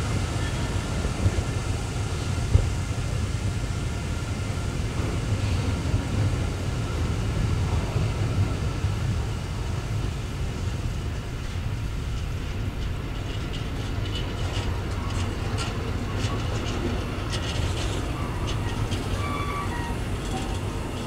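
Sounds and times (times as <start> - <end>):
freight train wheels rumbling on rails: 0.0 - 21.0.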